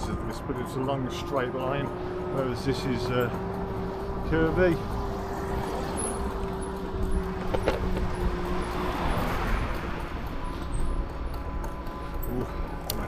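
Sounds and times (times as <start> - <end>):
wind and road rumble: 0.0 - 13.0.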